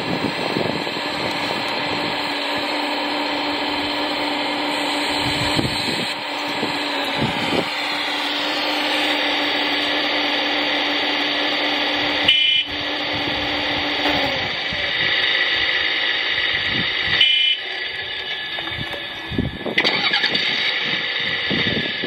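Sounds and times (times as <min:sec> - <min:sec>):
model excavator motors whirring: 0:00.0 - 0:22.0.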